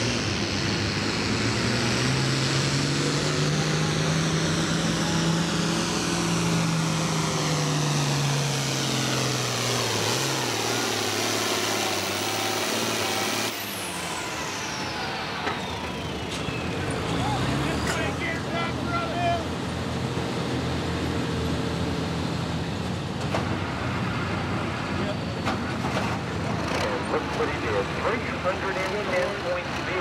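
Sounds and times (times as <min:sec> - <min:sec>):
diesel tractor engine under load: 0:00.0 - 0:30.0.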